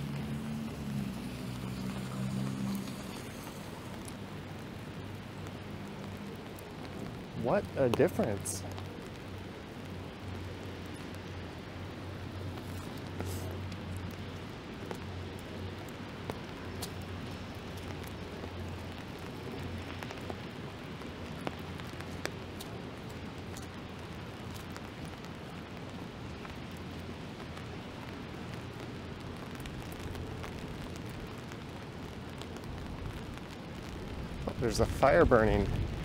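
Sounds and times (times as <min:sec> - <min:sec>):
low steady rumble: 0:00.0 - 0:36.0
steady rain hiss: 0:00.0 - 0:36.0.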